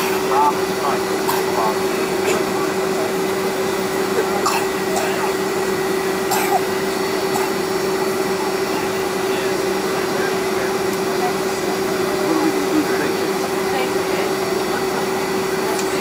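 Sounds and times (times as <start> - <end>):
jet engines idling from cabin: 0.0 - 16.0.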